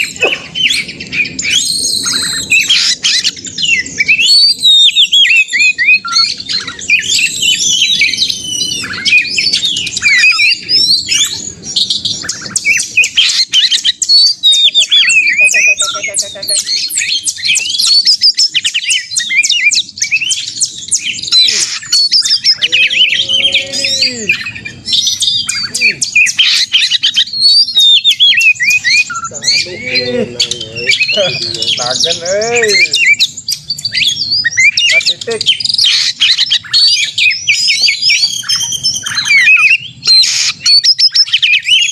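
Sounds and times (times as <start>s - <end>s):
bird singing whistles and trills: 0.0s - 41.9s.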